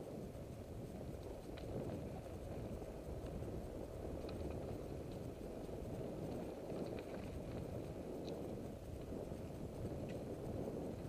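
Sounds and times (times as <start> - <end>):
bicycle tyres on unpaved road: 0.0 - 11.0
faint clicks: 0.1 - 11.0.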